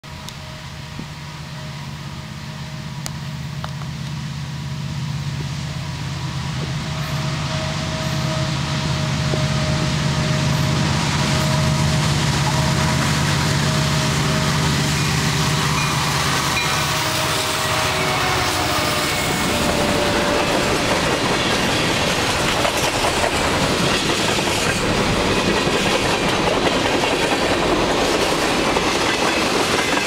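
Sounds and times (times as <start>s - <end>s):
locomotive diesel engines: 0.0s - 30.0s
rushing rail noise: 0.0s - 30.0s.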